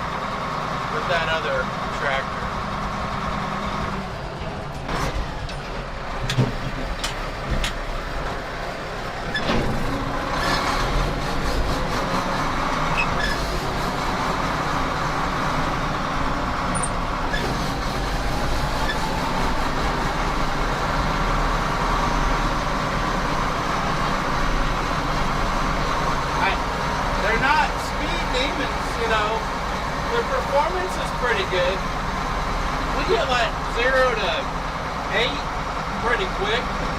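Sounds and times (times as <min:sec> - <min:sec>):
farm vehicle engine rumbling: 0:00.0 - 0:36.9.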